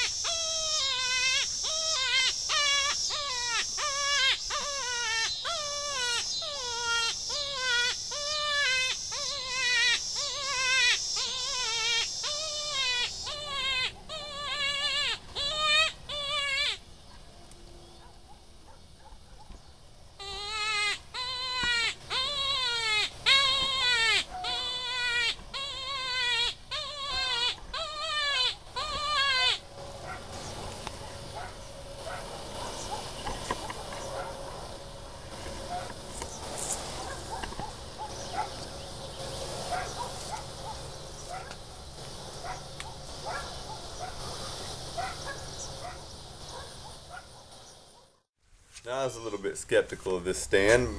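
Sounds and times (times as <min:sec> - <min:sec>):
predator call distress cries: 0:00.0 - 0:16.9, 0:20.2 - 0:47.2, 0:49.0 - 0:49.6.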